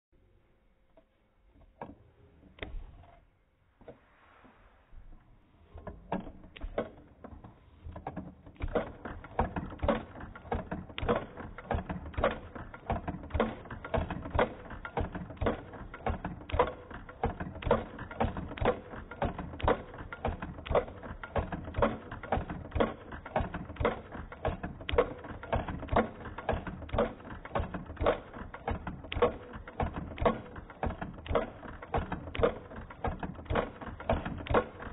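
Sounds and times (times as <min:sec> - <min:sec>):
sewing machine clicking and knocking: 0:05.8 - 0:34.9.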